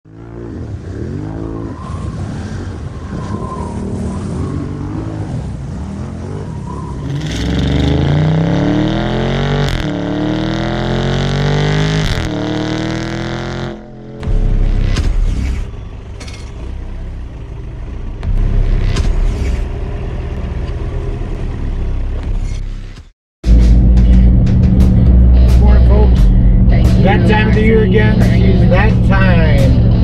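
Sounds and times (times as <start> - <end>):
vehicle engine revving and accelerating: 0.1 - 30.0.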